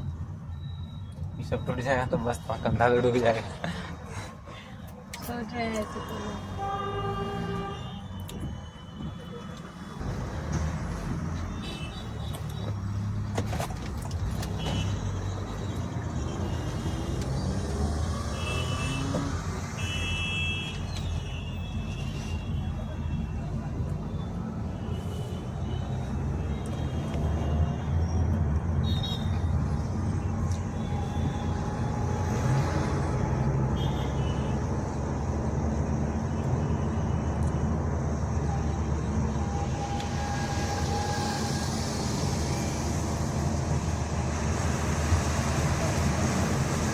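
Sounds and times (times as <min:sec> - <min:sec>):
car road and engine drone: 0:00.0 - 0:46.9.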